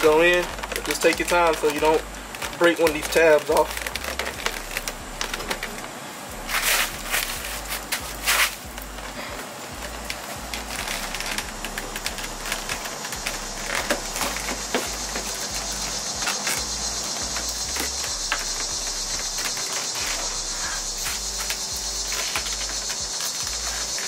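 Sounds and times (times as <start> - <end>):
background music with bass line: 0.0 - 24.0.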